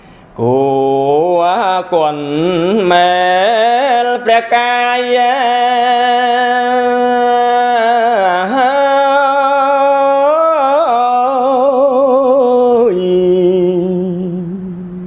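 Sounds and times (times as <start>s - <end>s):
monk chanting: 0.4s - 15.0s.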